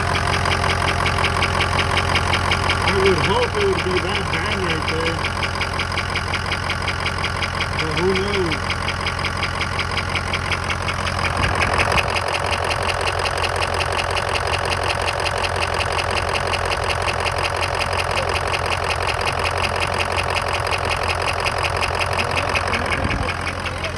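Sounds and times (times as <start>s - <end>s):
diesel engine idling with ticking: 0.0s - 23.9s.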